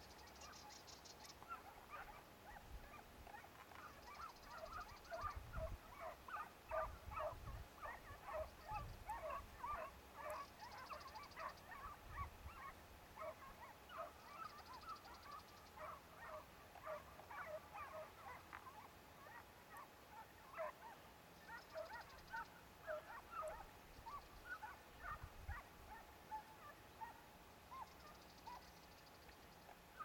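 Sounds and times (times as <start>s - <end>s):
hounds baying: 1.4s - 28.7s.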